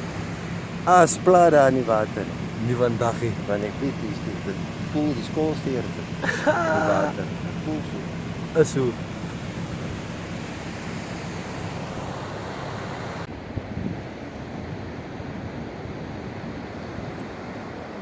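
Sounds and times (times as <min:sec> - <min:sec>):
sea surf: 0:00.0 - 0:18.0.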